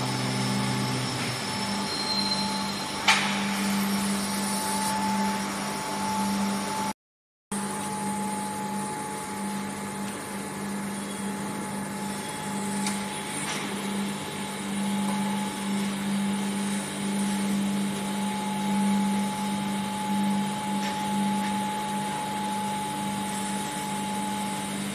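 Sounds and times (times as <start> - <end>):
thin high steady tone: 0.0 - 6.9, 7.6 - 24.9
pulsing machinery hum: 0.0 - 24.9.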